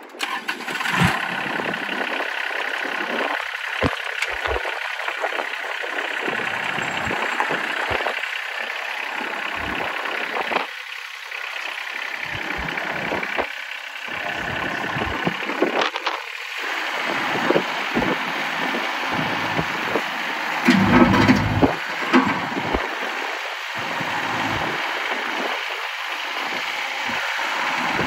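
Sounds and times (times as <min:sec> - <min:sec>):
diesel tractor running: 0:00.0 - 0:28.0
gravel crunching under tyres: 0:00.2 - 0:28.0.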